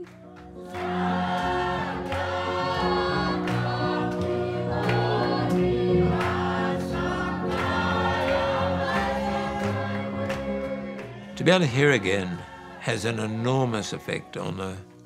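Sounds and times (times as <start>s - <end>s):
group singing in harmony: 0.0s - 14.8s.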